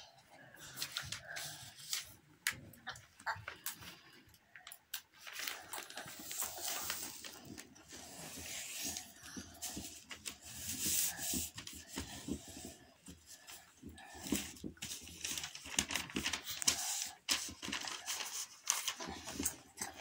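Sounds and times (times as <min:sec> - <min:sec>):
paper rustling and crinkling: 0:00.0 - 0:20.0.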